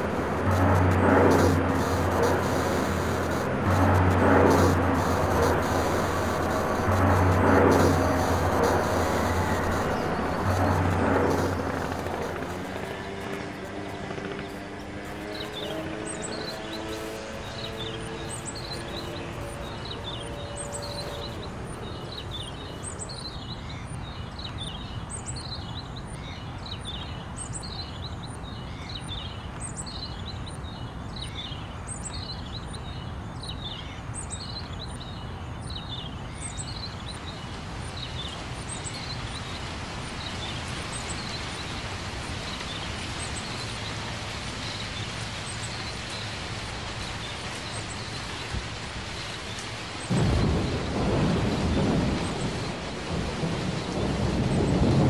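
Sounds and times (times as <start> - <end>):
steady rushing ambient noise: 0.0 - 25.1, 33.0 - 55.0
birds chirping: 0.0 - 55.0.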